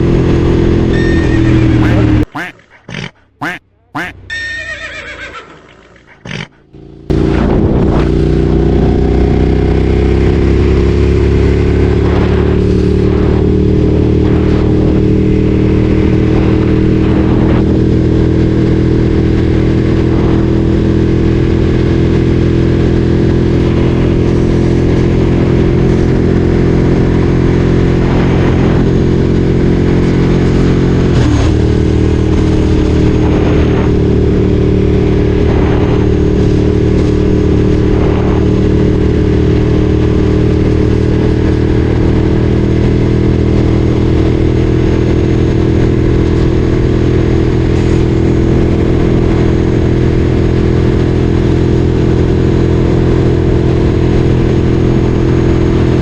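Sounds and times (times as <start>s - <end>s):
motorcycle engine running loud: 0.0s - 2.5s, 3.2s - 4.3s, 6.5s - 56.0s.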